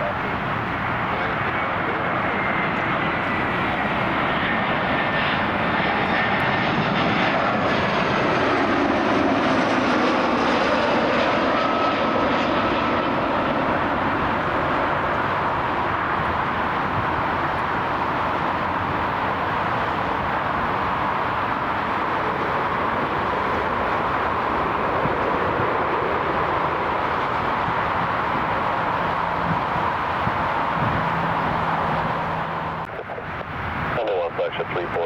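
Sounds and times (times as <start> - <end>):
jet airliner engines passing: 0.0 - 35.0.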